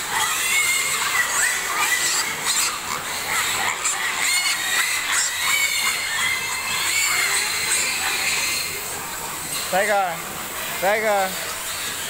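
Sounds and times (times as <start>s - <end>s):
piglets squealing: 0.0s - 12.0s.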